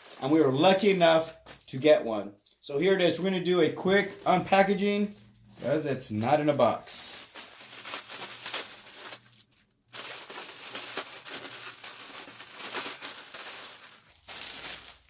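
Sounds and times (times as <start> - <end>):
plastic mailer bag crinkling: 0.0 - 1.8, 3.2 - 15.0.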